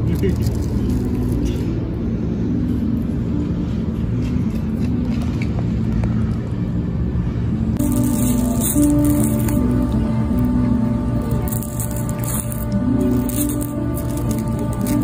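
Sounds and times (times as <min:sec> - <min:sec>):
steady low rumble: 0:00.0 - 0:15.0
music: 0:00.1 - 0:15.0.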